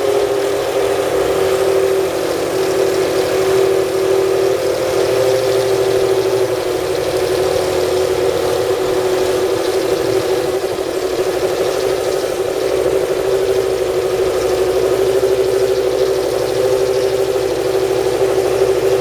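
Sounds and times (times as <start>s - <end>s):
race car engine idling: 0.0s - 19.0s.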